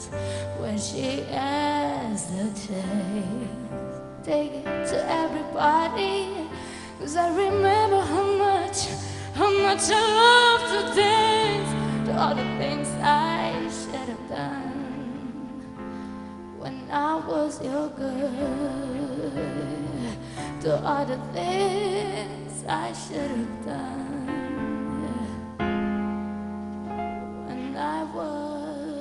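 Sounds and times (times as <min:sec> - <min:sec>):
woman singing pop ballad: 0:00.0 - 0:25.6, 0:27.4 - 0:29.0.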